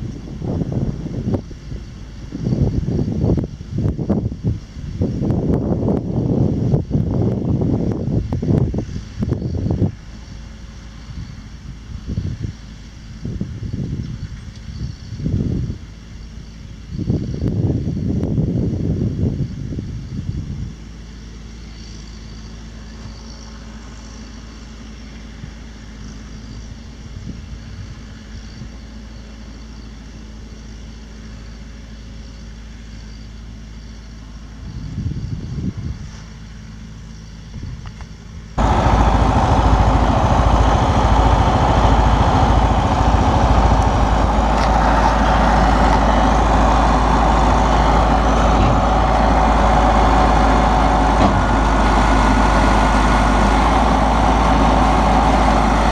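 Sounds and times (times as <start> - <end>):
tractor and baler running: 0.0 - 55.9.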